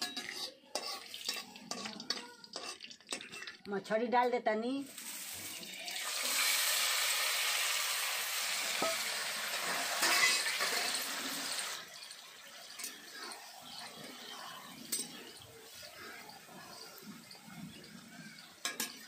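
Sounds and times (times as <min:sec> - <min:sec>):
fish sizzling in hot oil: 0:00.0 - 0:03.6, 0:04.8 - 0:19.0.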